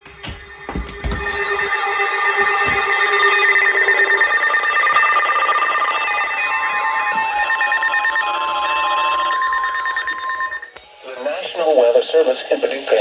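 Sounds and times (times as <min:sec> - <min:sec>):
electronic alert tones beeping: 0:00.3 - 0:10.8.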